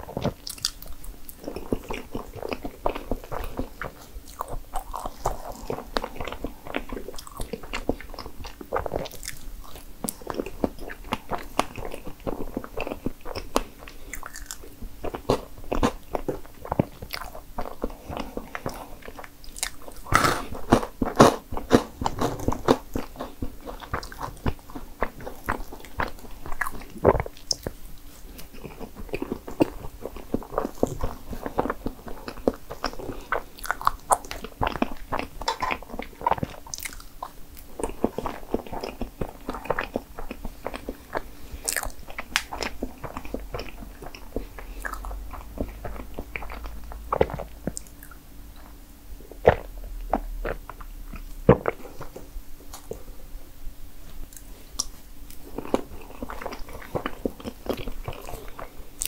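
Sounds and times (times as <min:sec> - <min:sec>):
wet chewing mouth clicks: 0:00.0 - 0:48.8.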